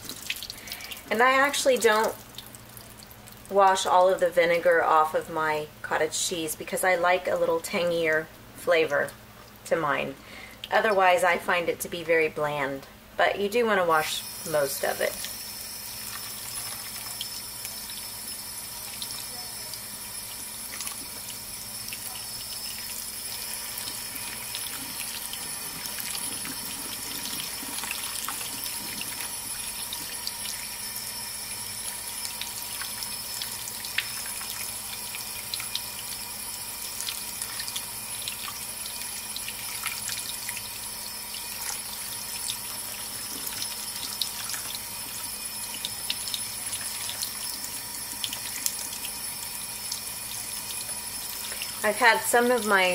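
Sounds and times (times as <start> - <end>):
faucet running water: 0.0 - 52.9.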